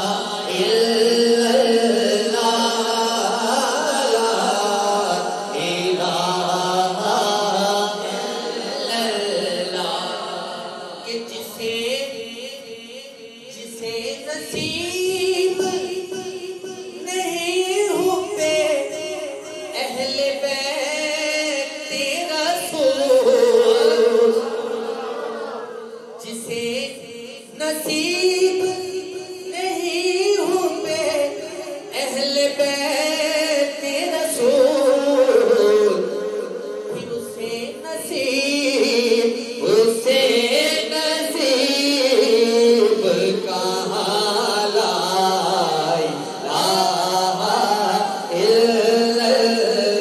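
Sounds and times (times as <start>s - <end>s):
man singing into a microphone: 0.0s - 50.0s.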